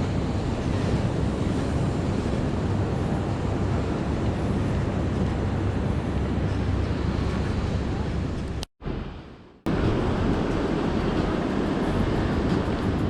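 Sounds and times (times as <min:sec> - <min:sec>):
ocean surf rushing: 0:00.0 - 0:13.0
wind on microphone: 0:00.0 - 0:13.0.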